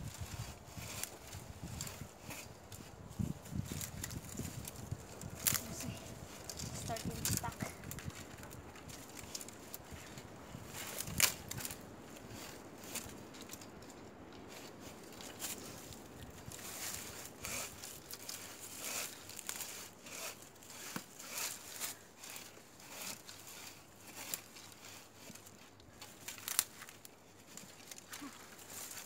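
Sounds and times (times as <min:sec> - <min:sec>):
bow saw rasping through wood: 0:00.0 - 0:13.1, 0:16.4 - 0:29.0.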